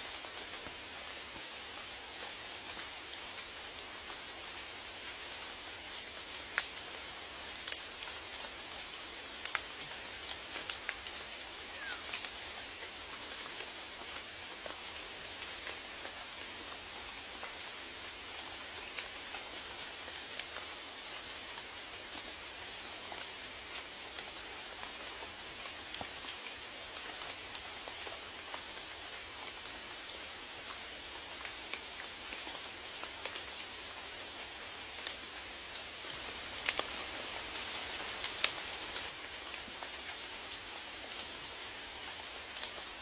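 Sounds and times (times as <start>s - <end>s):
raindrops ticking on surface: 0.0s - 43.0s
steady rain hiss: 0.0s - 43.0s.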